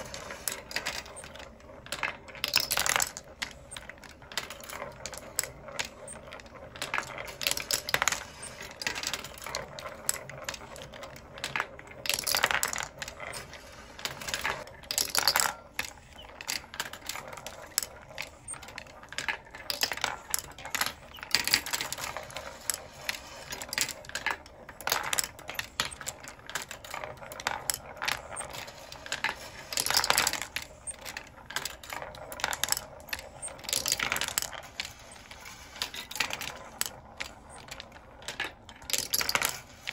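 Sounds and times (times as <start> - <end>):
bursts of marble clatter: 0.0 - 39.9
marbles clicking and rattling on tracks: 0.0 - 39.9.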